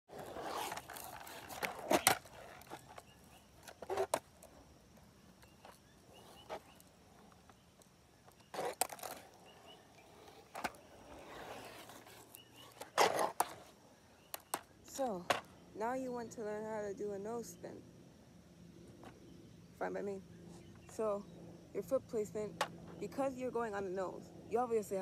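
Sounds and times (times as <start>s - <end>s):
board wheels rolling on asphalt: 0.1s - 25.0s.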